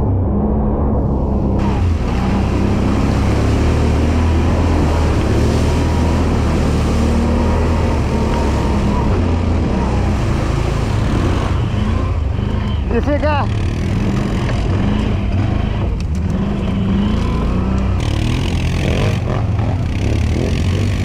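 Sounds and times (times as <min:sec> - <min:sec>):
quad bike engine running: 0:01.6 - 0:21.0.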